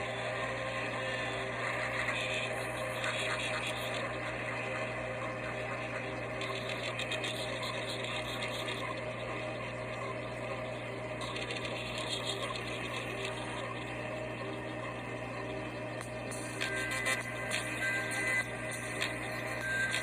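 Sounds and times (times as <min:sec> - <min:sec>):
steady engine drone: 0:00.0 - 0:20.0.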